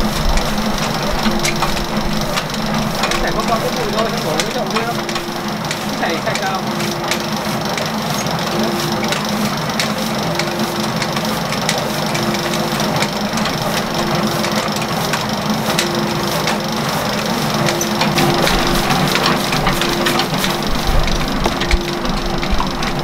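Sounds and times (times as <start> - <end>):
intermittent tone: 0.0 - 23.0
machine humming: 0.0 - 23.0.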